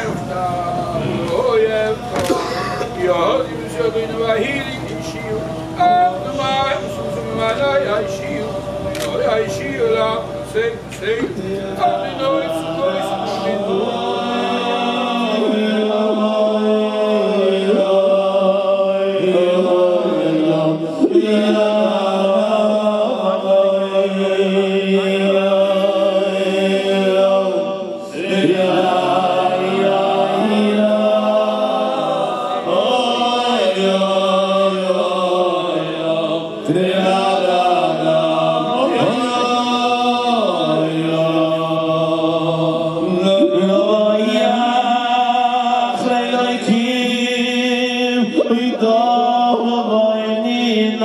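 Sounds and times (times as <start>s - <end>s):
voices chanting gliding melody: 0.0s - 51.0s.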